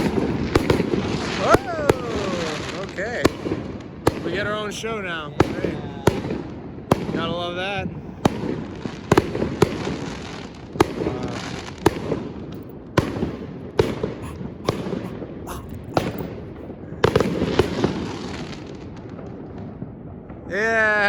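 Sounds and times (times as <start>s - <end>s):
fireworks bangs: 0.0s - 20.6s.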